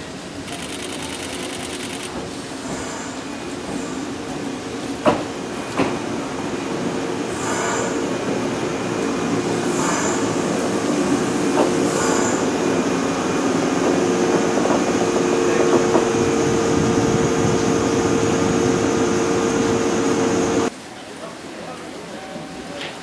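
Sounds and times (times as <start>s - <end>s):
train rolling past: 0.0s - 23.0s.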